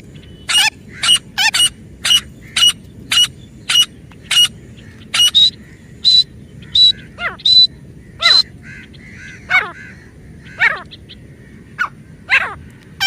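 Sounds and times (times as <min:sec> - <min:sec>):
francolin calling: 0:00.0 - 0:12.6.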